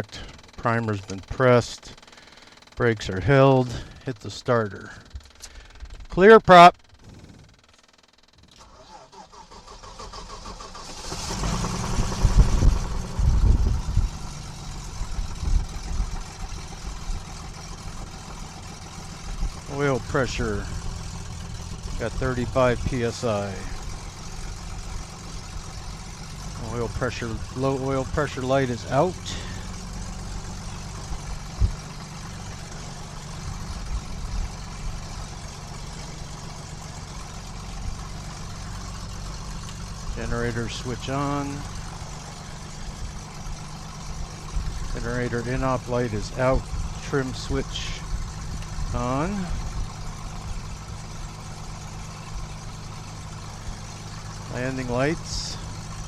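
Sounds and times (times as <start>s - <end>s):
electric starter cranking engine: 1.8s - 3.0s, 6.8s - 56.0s
airplane engine running: 8.5s - 56.0s.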